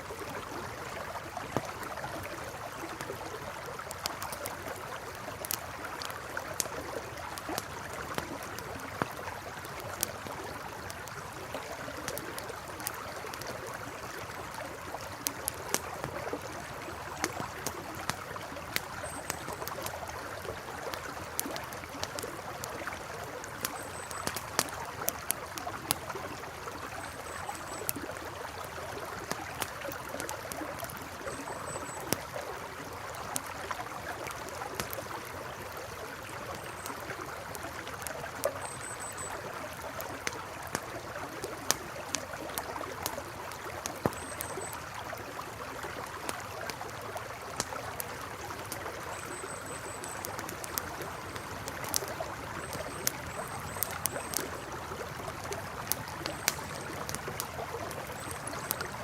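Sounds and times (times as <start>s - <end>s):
campfire crackling and popping: 0.0s - 59.0s
river flowing: 0.0s - 59.0s.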